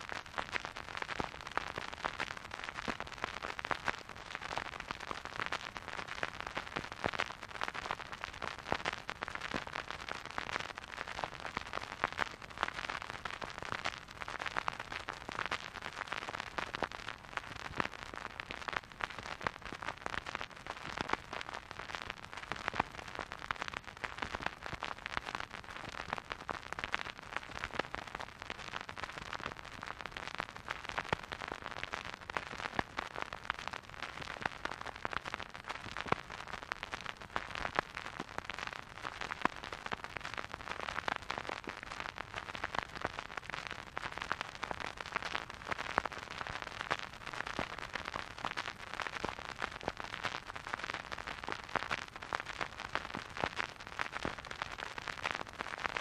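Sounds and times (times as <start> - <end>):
vinyl record hiss and crackle: 0.0 - 56.0.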